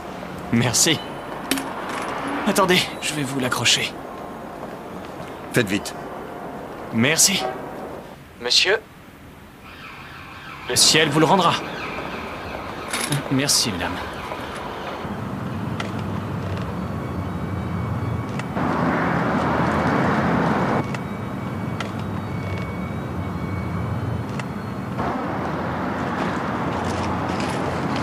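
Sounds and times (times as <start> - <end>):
low traffic hum: 0.0 - 28.0
traffic rushing noise: 0.0 - 28.0.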